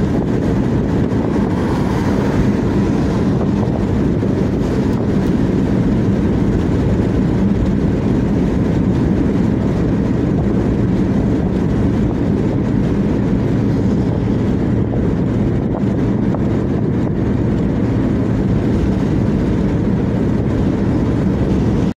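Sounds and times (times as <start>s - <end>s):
wind noise: 0.0s - 21.9s.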